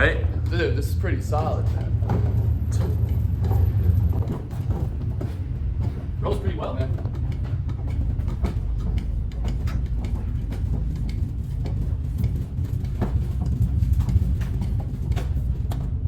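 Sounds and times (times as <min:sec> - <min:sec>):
small clicks and rattles: 0:00.0 - 0:16.0
tool cart rolling on casters: 0:00.0 - 0:16.0.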